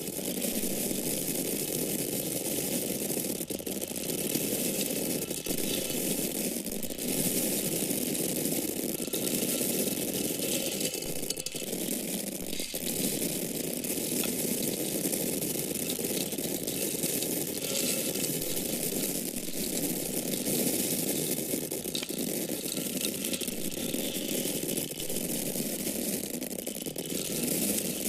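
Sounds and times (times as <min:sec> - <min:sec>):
dry grains pouring: 0:00.0 - 0:28.0.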